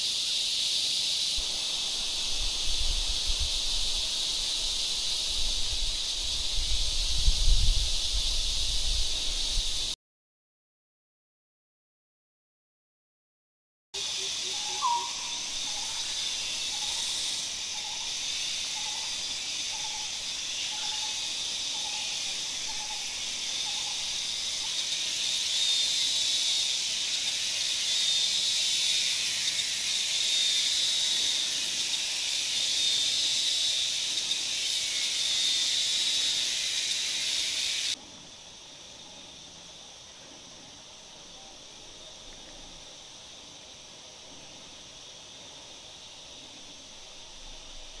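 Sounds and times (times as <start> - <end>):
insects buzzing: 0.0 - 10.0, 14.0 - 48.0.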